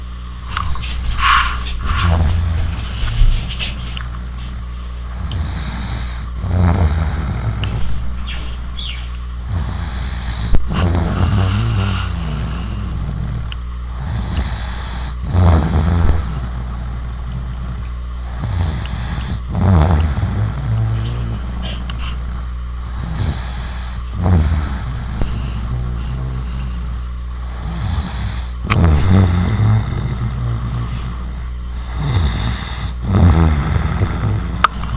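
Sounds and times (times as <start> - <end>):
person snoring: 0.0 - 34.9
steady low hum: 0.0 - 34.9.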